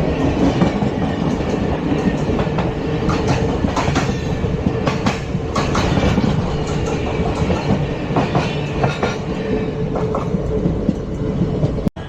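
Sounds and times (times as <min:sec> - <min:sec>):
train coaches rumbling: 0:00.0 - 0:12.0
wheels clicking over rails: 0:00.1 - 0:11.9.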